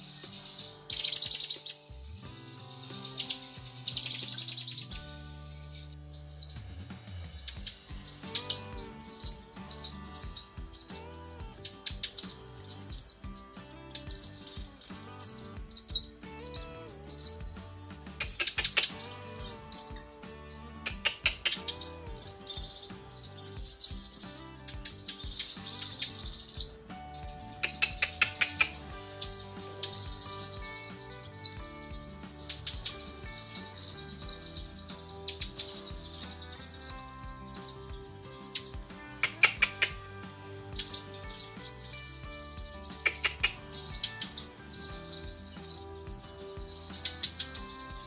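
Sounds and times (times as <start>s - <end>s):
bird chirping: 0.0s - 48.0s.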